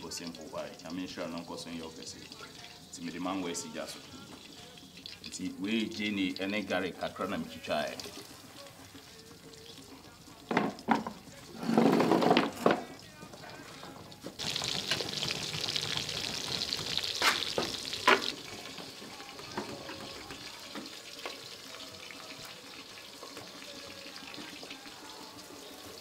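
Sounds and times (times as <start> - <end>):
onions sizzling in hot oil: 0.0 - 12.2, 13.5 - 26.0.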